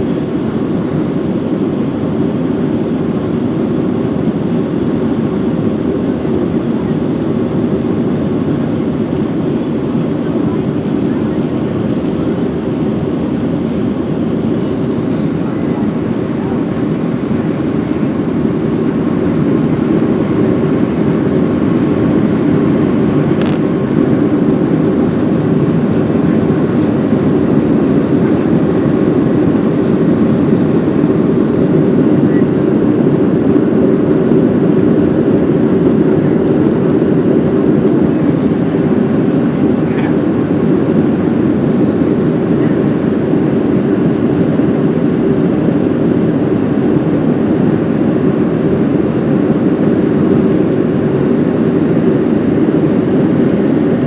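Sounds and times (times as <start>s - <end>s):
jet engine drone in cabin: 0.0s - 54.0s
rushing air: 7.3s - 54.0s.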